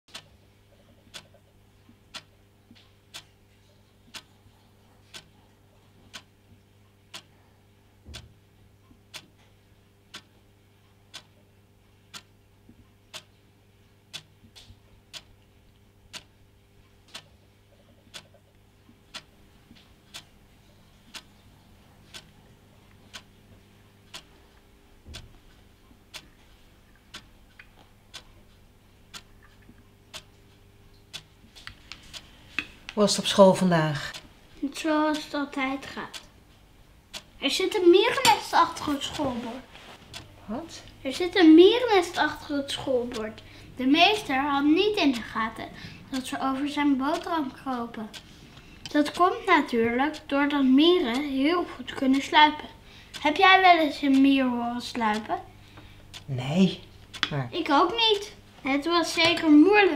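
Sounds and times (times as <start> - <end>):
clock ticking: 0.1 - 4.3, 5.1 - 5.5, 6.1 - 6.3, 7.1 - 7.3, 8.1 - 59.9
low steady hum: 0.1 - 59.9.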